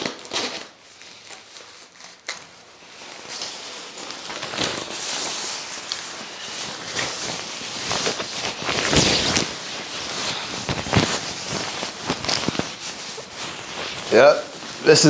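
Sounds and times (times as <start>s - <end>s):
nylon jacket rustling: 0.0s - 15.0s.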